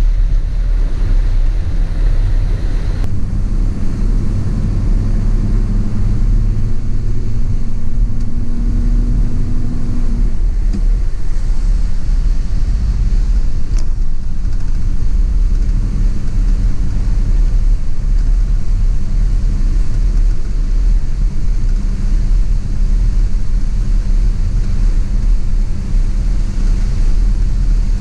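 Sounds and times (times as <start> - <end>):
steady hum: 0.0 - 28.0
vehicle engine and road noise: 0.0 - 28.0.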